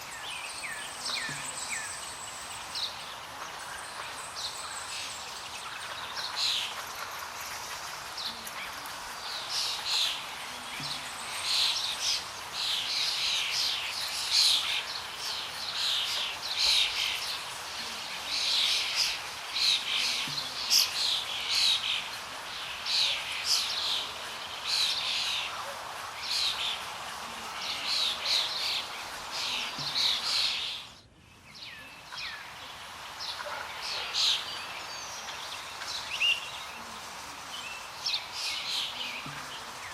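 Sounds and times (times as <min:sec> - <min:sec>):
birds chirping: 0:00.0 - 0:39.9
outdoor ambience hiss: 0:00.0 - 0:39.9.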